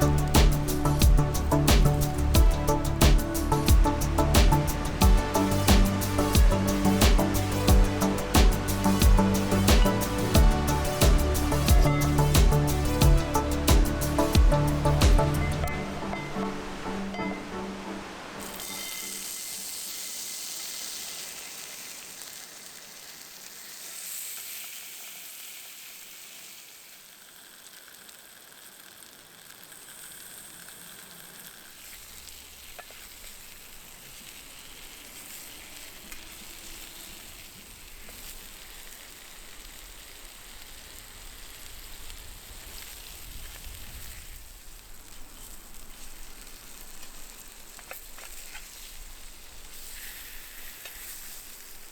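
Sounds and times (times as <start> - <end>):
food sizzling in frying pan: 0.0 - 17.6, 18.3 - 51.9
fire crackles: 0.0 - 51.9.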